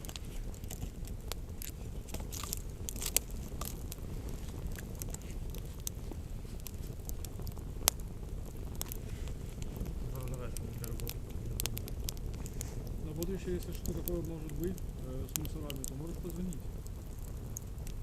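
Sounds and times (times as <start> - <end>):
burning wood popping: 0.0 - 18.0
campfire crackling: 0.0 - 18.0.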